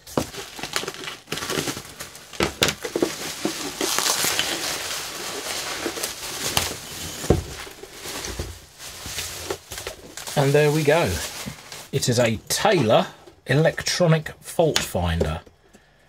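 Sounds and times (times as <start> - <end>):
bubble wrap crinkling: 0.0 - 14.0.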